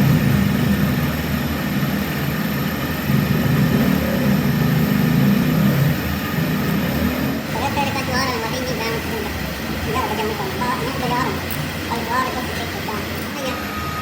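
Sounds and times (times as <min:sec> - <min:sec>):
workshop machinery humming: 0:00.0 - 0:14.0.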